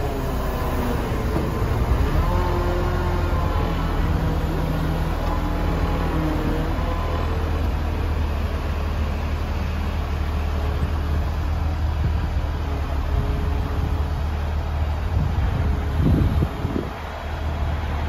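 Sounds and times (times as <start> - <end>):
truck engine droning: 0.0 - 18.0.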